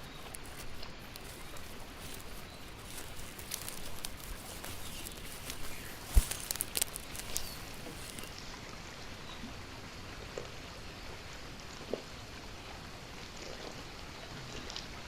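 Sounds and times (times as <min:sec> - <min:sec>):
outdoor background hiss: 0:00.0 - 0:13.2.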